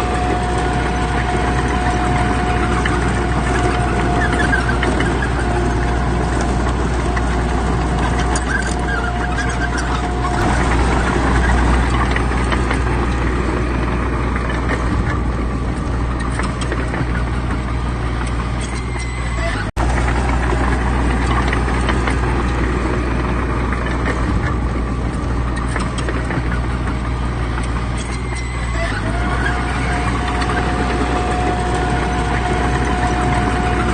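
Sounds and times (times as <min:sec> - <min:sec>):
heavy diesel engines droning: 0:00.0 - 0:33.9
steady whine: 0:00.0 - 0:33.9.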